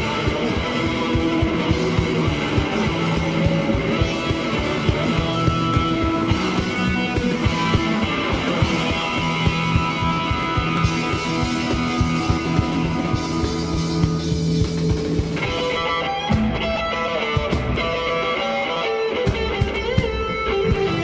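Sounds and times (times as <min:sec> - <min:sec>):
steady drum beat: 0:00.0 - 0:18.5, 0:19.2 - 0:21.0
rock music with guitar: 0:00.0 - 0:21.0.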